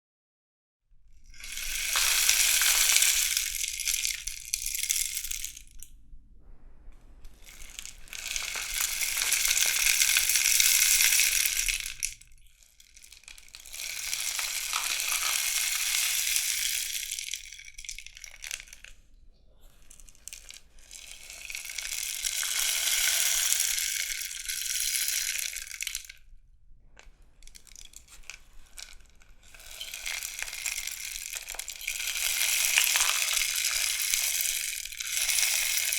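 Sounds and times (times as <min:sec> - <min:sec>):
rainstick pellets trickling: 0:01.3 - 0:05.9, 0:07.4 - 0:19.0, 0:19.7 - 0:26.2, 0:27.4 - 0:35.9.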